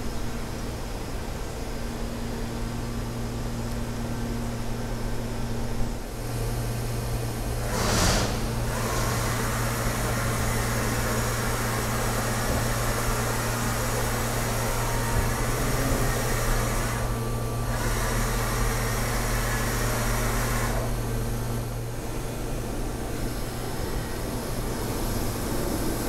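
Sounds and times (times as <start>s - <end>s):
milling machine hum: 0.1s - 26.0s.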